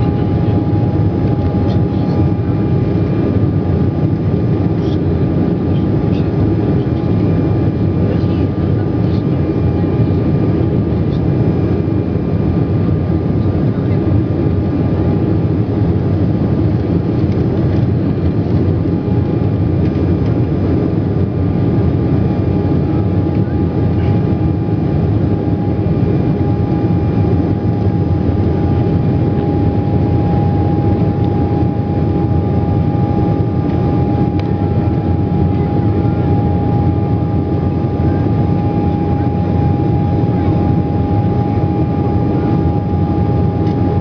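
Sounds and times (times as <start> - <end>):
jet engine rushing in cabin: 0.0 - 44.0
jet engine whine: 0.0 - 44.0.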